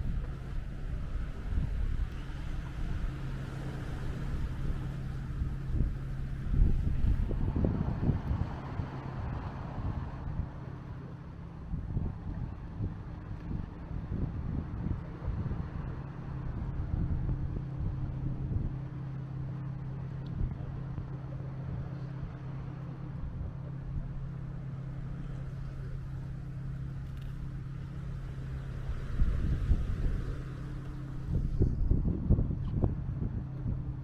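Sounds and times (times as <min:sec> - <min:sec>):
engine running steadily: 0:00.0 - 0:34.0
wind buffeting microphone: 0:00.0 - 0:34.0.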